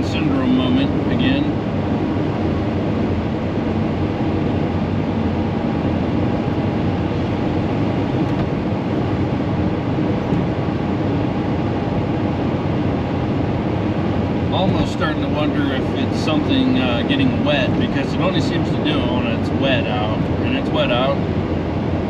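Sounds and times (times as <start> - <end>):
engine running: 0.0 - 22.0
road noise inside vehicle cab: 0.0 - 22.0.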